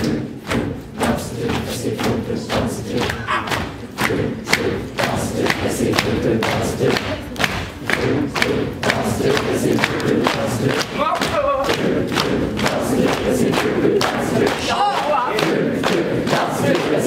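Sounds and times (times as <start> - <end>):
crowd chanting and shouting: 0.0 - 17.0.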